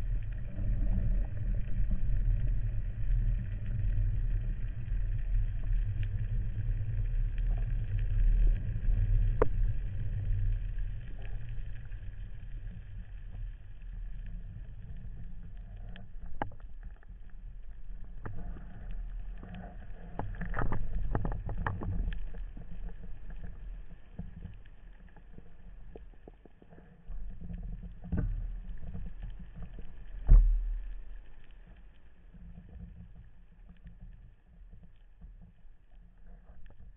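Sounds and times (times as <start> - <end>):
underwater water rumble: 0.0 - 36.9.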